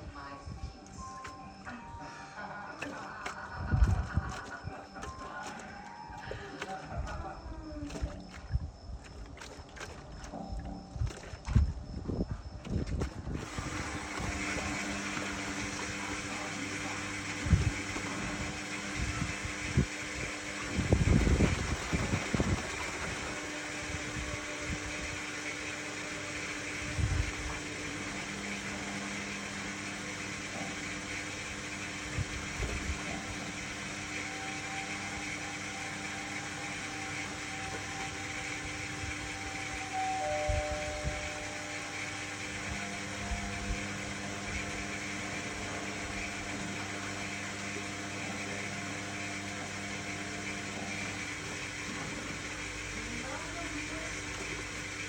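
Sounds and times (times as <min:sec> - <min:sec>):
washing machine motor hum: 0:00.0 - 0:55.0
water swishing in drum: 0:02.4 - 0:55.0.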